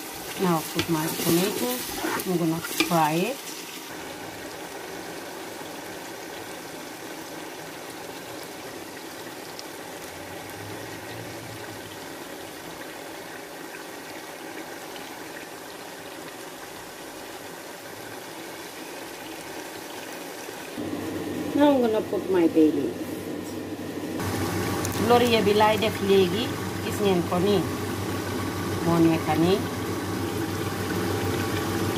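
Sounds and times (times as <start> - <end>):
tomato frying and bubbling in oil: 0.0 - 31.9.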